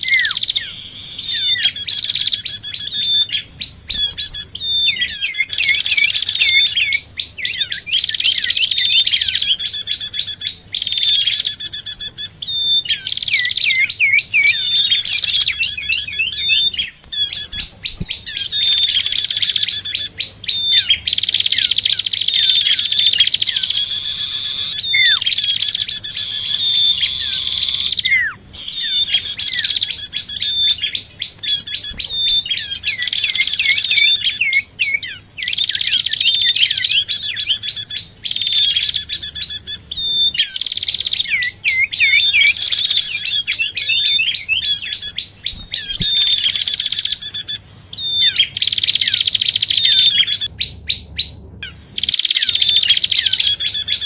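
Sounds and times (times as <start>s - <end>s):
falling whistled bird notes: 0.0s - 51.3s
birds chattering: 0.0s - 54.0s.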